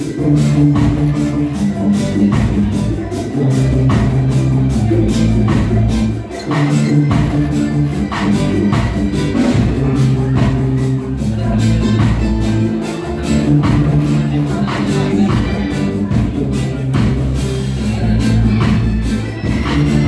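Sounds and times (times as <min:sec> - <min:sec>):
live reggae band playing: 0:00.0 - 0:20.0
low bass line: 0:00.0 - 0:20.0
steady drum beat: 0:00.0 - 0:20.0.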